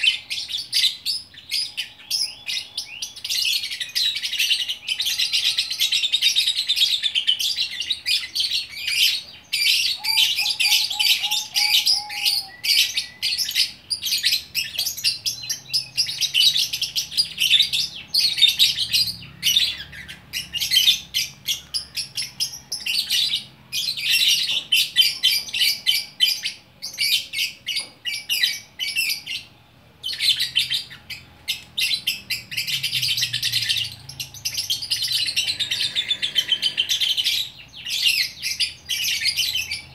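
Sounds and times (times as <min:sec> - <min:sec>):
lovebird chirping and trilling: 0:00.0 - 0:39.9.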